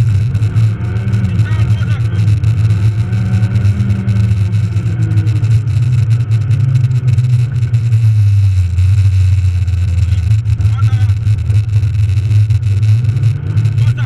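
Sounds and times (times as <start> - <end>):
car engine under load: 0.0 - 14.0
tyre and road noise on snow: 0.0 - 14.0.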